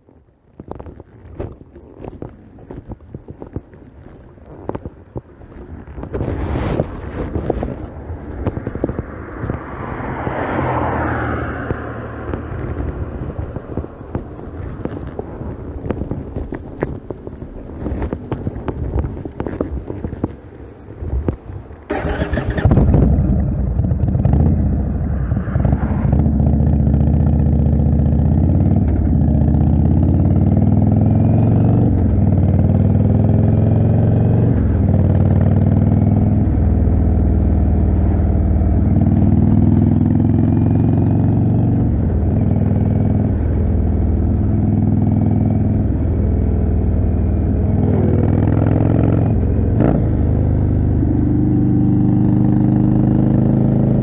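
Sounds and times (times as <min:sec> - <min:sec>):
motorcycle engine accelerating: 0:05.5 - 0:54.0.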